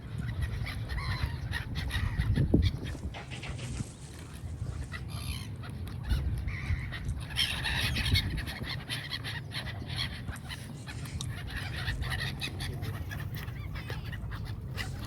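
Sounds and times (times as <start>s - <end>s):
birds calling: 0.2s - 15.0s.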